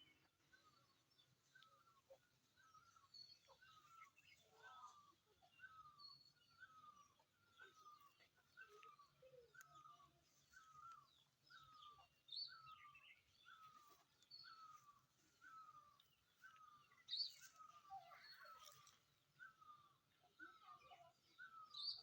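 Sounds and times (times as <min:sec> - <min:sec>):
birds chirping high: 0:00.0 - 0:22.0.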